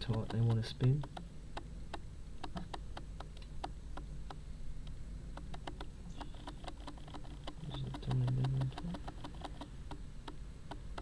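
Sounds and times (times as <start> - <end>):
autofocus motor clicking: 0.0 - 11.0
low steady hum: 0.0 - 11.0.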